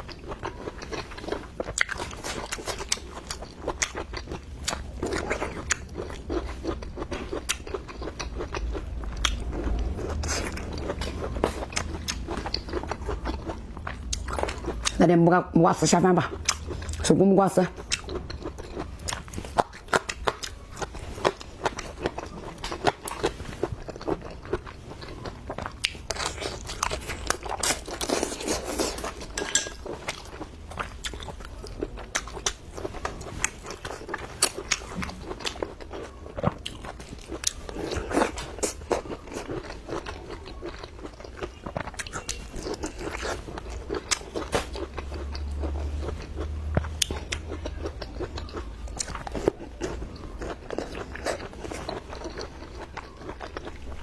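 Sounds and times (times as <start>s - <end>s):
crunchy chewing: 0.0s - 15.0s, 17.7s - 54.0s.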